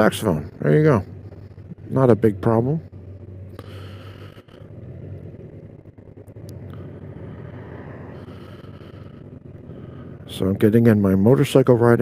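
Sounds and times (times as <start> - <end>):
motorcycle engine humming: 0.0 - 12.0
road and wind noise: 0.0 - 12.0.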